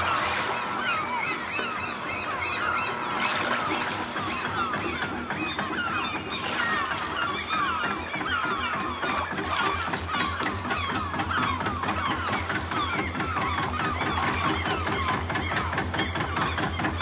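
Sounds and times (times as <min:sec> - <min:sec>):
boat engine throbbing: 0:00.0 - 0:17.0
seagulls crying: 0:00.0 - 0:17.0.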